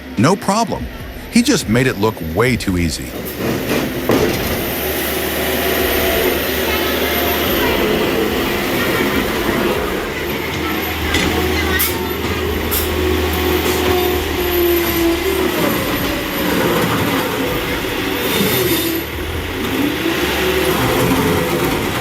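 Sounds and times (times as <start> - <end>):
heavy machine low rumble: 0.8 - 22.0.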